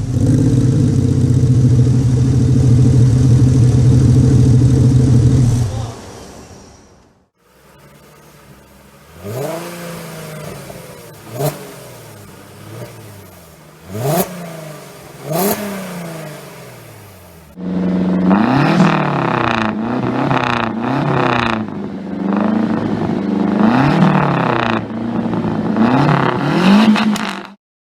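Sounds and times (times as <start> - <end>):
racing engine shifting through gears: 0.0 - 27.6.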